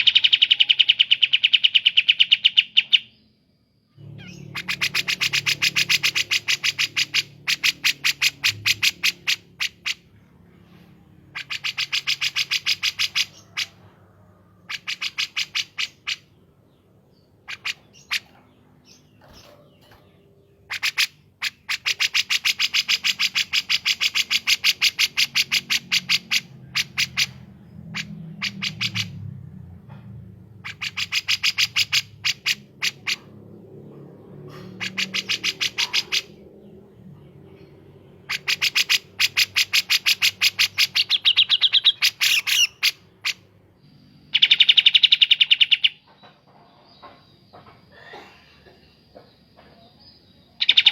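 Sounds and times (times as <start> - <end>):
bird song with rapid sharp notes: 0.0 - 13.9, 14.6 - 48.0, 48.6 - 50.9.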